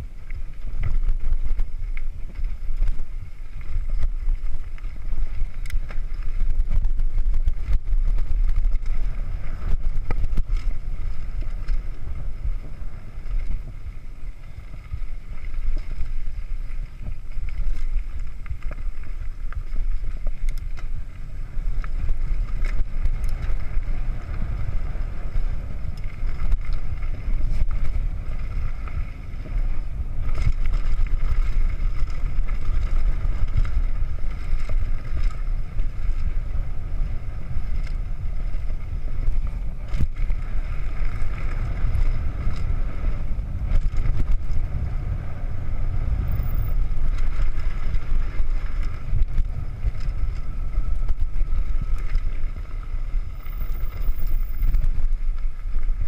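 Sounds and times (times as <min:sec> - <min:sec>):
bike tyre noise on dirt: 0:00.0 - 0:56.0
wind rumble on microphone: 0:00.0 - 0:56.0.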